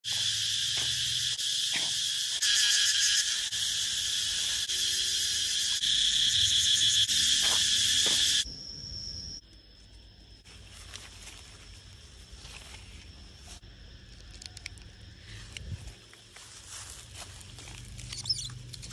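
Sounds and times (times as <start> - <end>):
cicadas buzzing: 0.0 - 18.9
faint high insect tone: 0.0 - 18.9.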